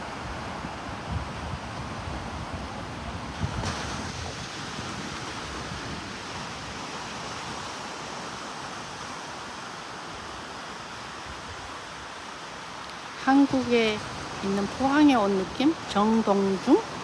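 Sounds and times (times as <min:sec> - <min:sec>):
surf breaking on beach: 0:00.0 - 0:15.9.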